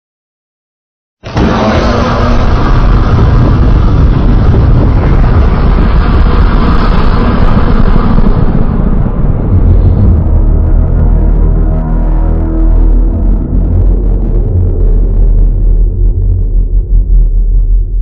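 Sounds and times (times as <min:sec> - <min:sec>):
monster low rumble with hiss: 0:01.2 - 0:18.0.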